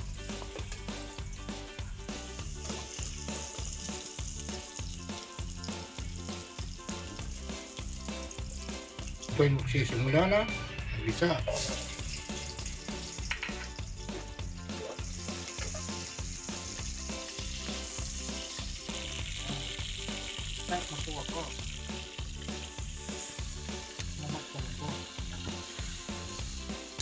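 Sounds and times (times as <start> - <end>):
garlic and onions sizzling in oil: 0.0 - 27.0.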